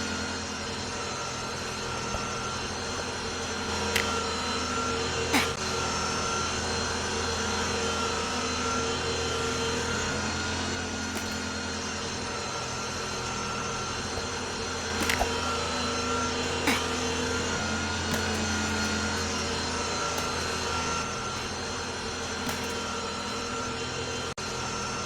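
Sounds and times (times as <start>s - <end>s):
machine drone: 0.0s - 25.0s.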